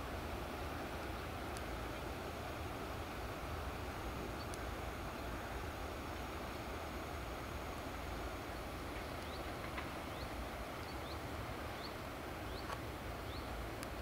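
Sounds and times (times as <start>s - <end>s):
low outdoor rumble and hiss: 0.0s - 14.0s.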